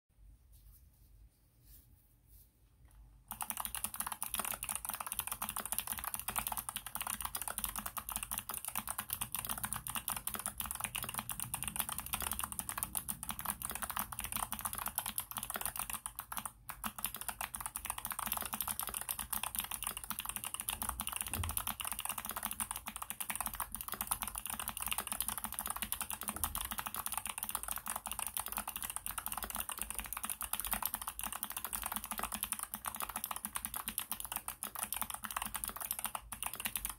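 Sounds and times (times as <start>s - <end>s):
clicky keyboard typing: 3.3s - 36.9s.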